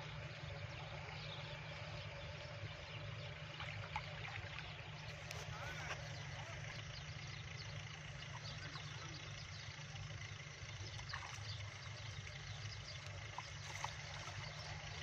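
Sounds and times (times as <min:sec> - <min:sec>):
shallow water sloshing and trickling: 0:00.0 - 0:15.0
steady low rumble: 0:00.0 - 0:15.0.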